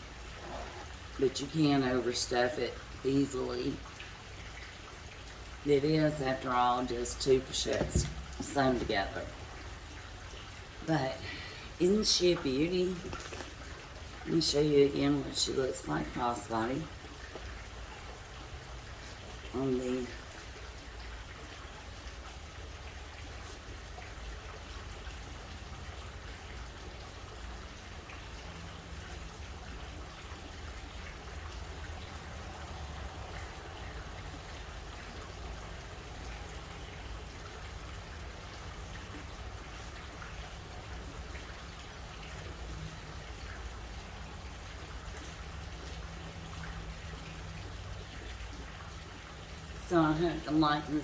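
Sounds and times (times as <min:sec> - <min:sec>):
fountain splashing: 0:00.0 - 0:51.0.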